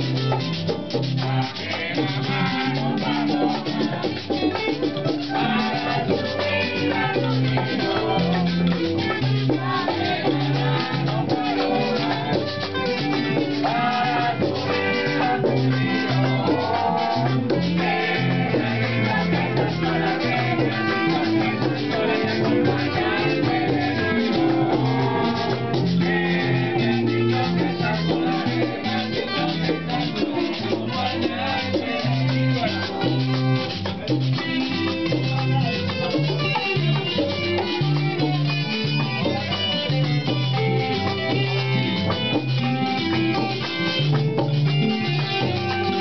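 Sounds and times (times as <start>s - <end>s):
group singing: 0.0s - 46.0s
shaken hand percussion: 0.0s - 46.0s.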